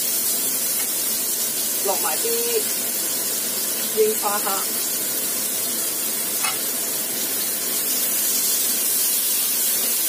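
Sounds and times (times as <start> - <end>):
oil sizzling in a frying pan: 0.0 - 10.0.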